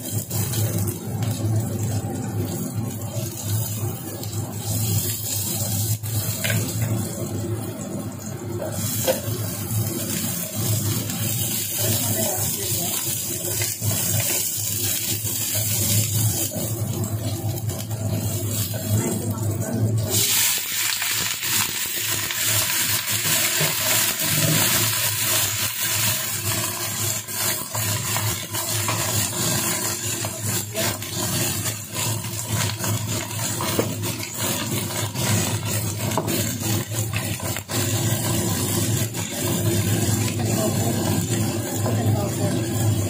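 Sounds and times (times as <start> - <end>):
vegetables sizzling in a wok: 0.0 - 43.0.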